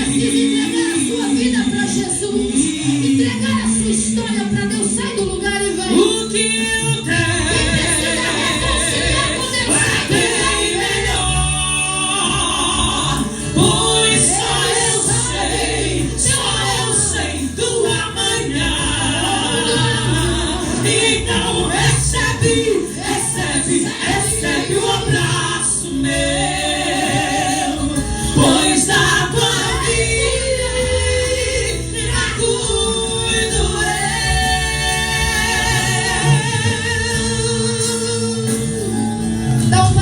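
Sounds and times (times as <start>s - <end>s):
gospel song with several voices: 0.0s - 40.0s.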